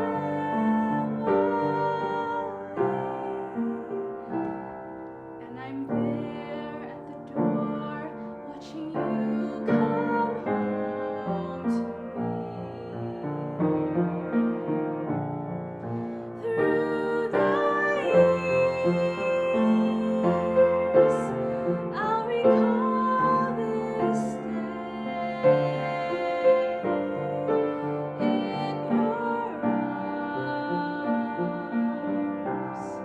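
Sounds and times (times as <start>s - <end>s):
piano playing slow chords: 0.0s - 33.0s.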